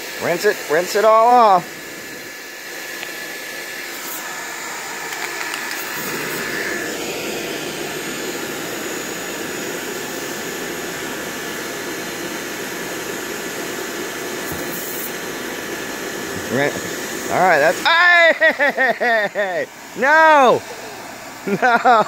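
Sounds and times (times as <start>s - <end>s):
pressure washer spraying water: 0.0s - 22.0s.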